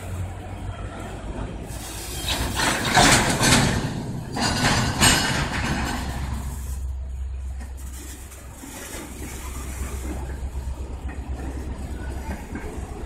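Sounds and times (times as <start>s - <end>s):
train wheels clattering: 1.7s - 6.9s, 7.6s - 13.0s.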